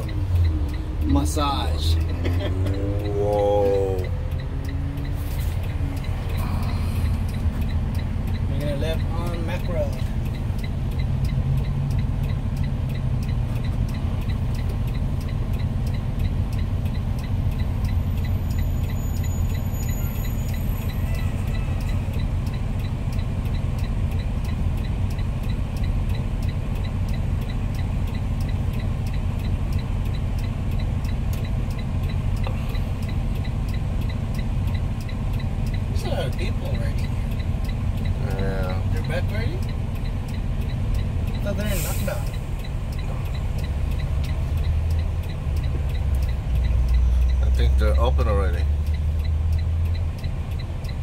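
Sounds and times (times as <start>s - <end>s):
diesel engine idling: 0.0s - 51.0s
turn signal ticking: 0.0s - 51.0s.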